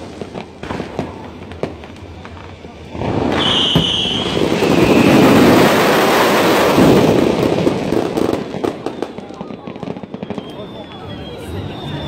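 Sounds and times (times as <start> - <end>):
fireworks bursting and crackling: 0.0 - 12.0
high firework whistle: 1.7 - 12.0.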